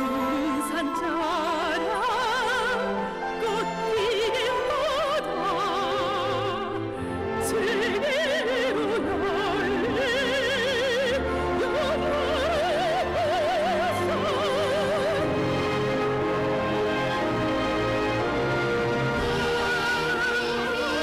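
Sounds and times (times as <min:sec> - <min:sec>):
operatic soprano singing: 0:00.0 - 0:21.0
orchestral accompaniment: 0:00.0 - 0:21.0.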